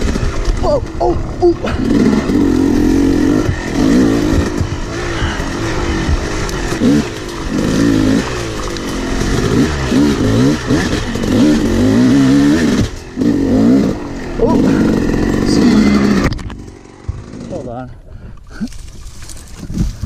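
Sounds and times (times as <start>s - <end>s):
dirt bike engine revving: 0.0s - 17.9s.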